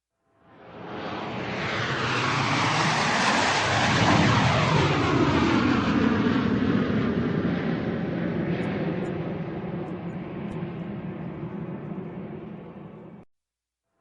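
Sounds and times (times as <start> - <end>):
airplane flying overhead: 0.4 - 13.3.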